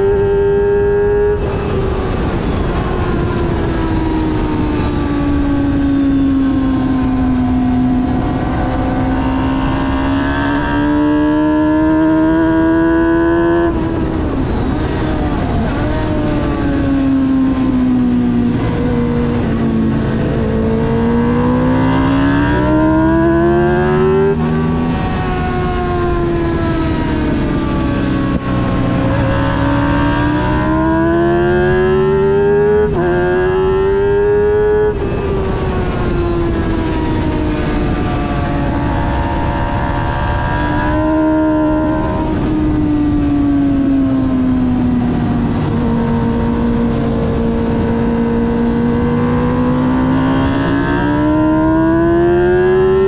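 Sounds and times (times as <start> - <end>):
motorcycle engine revving: 0.0 - 53.0
wind and road rush: 0.0 - 53.0.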